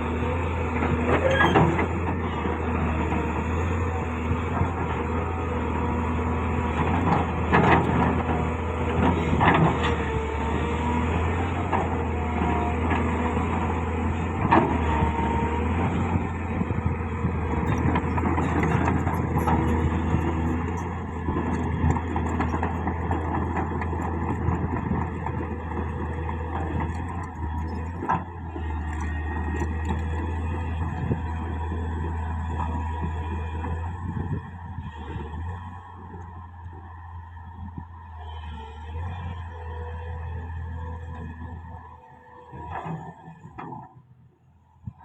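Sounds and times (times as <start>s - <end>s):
diesel engine running: 0.0s - 43.8s.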